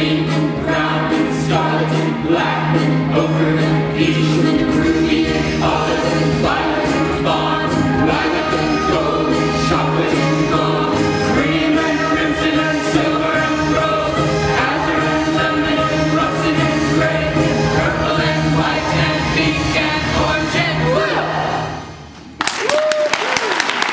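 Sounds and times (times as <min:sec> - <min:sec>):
ensemble singing with accompaniment: 0:00.0 - 0:22.4.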